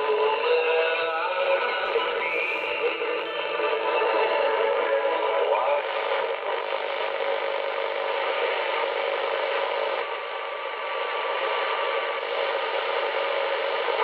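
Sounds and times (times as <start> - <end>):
faint steady radio whistles: 0.0 - 14.0
radio static: 0.0 - 14.0.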